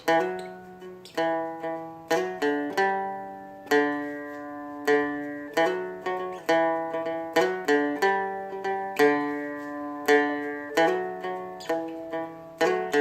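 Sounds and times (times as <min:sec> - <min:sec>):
dulcimer strumming chords: 0:00.0 - 0:13.0.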